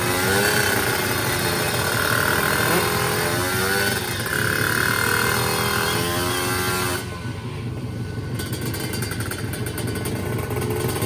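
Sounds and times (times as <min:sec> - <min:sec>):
motorcycle engine revving high: 0:00.0 - 0:11.0.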